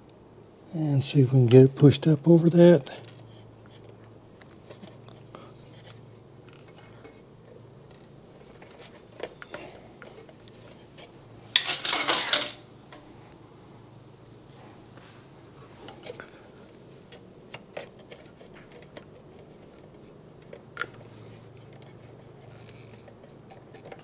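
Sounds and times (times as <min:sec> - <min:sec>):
rustling clatter: 0:02.9 - 0:13.2, 0:14.6 - 0:24.0.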